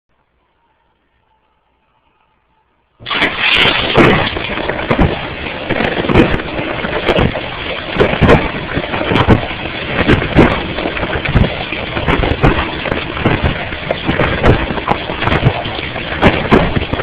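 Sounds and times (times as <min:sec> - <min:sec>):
dishwasher water spraying: 0:03.0 - 0:17.0
water slapping plastic bag: 0:03.0 - 0:17.0.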